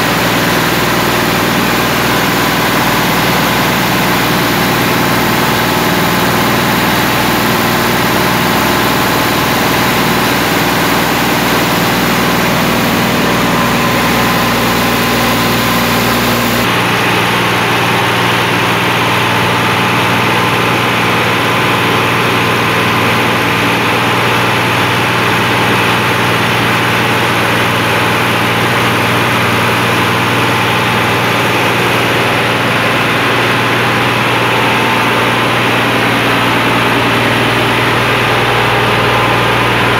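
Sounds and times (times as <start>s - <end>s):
diesel engine running loudly: 0.0s - 39.9s.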